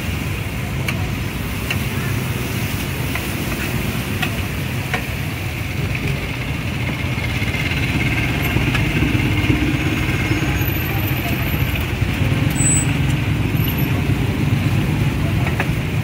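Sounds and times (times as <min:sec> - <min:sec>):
motorbike engines: 0:00.0 - 0:16.0.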